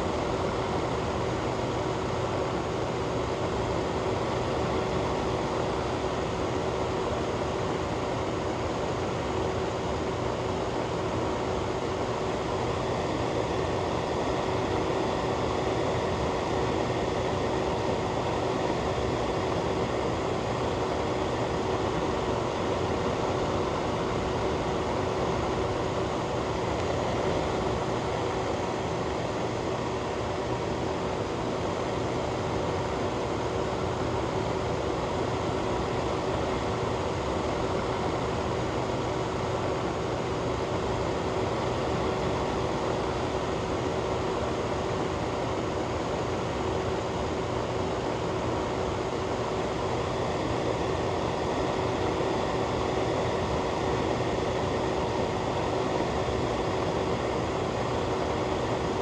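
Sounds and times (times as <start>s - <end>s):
ventilation fan humming: 0.0s - 59.0s.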